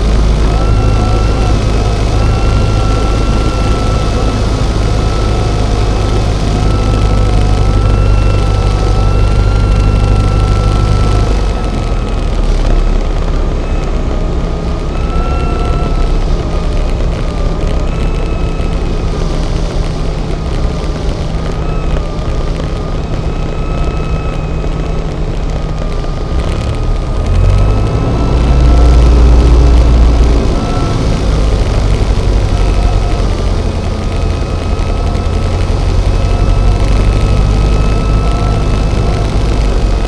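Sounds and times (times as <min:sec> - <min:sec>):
airplane engine droning: 0:00.0 - 0:40.0.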